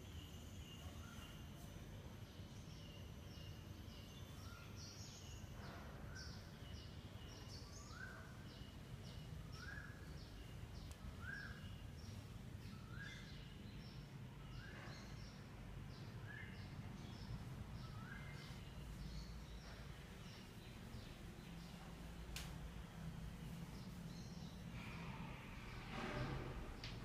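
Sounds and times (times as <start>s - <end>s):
bird chirping: 0.0s - 22.1s
low room hum: 0.0s - 27.0s.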